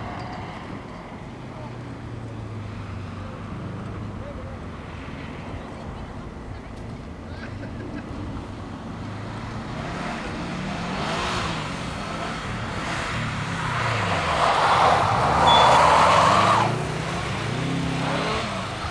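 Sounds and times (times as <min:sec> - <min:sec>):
car engines revving: 0:00.0 - 0:18.9.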